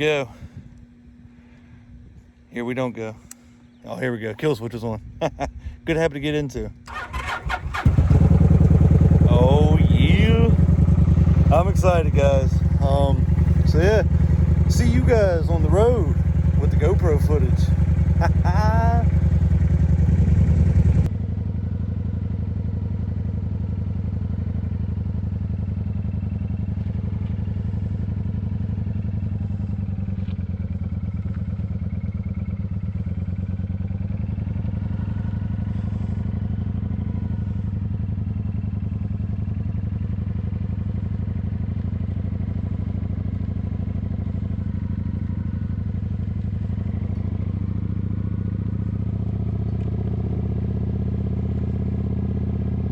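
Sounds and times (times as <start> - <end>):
motorcycle engine running: 6.6 - 52.9.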